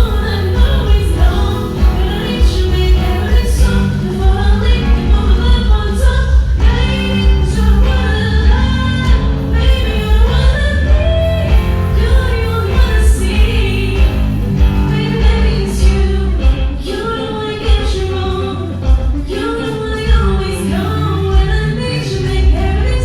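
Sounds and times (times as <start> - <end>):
loud live music with bass beat: 0.0 - 23.0
person singing: 0.0 - 23.0.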